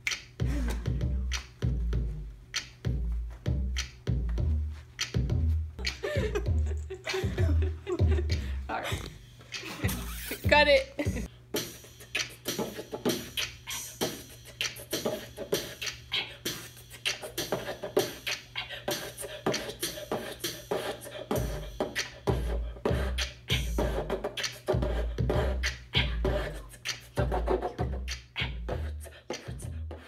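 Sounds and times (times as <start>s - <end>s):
beatboxing into a microphone: 0.0s - 10.7s, 11.6s - 30.0s.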